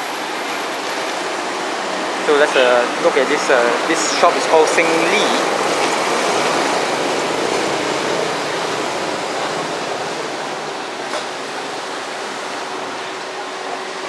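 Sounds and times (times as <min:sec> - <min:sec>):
street traffic roar: 0:00.0 - 0:14.0.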